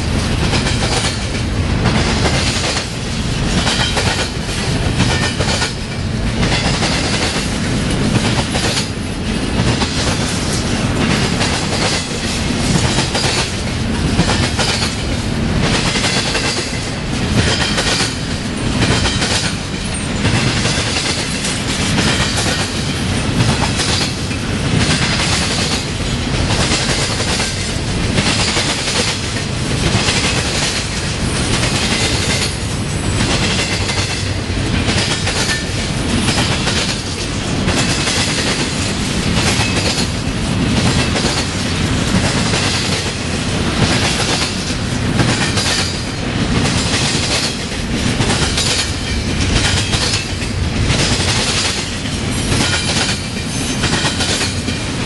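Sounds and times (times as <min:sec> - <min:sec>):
train wheels clacking over crossing: 0:00.0 - 0:55.0.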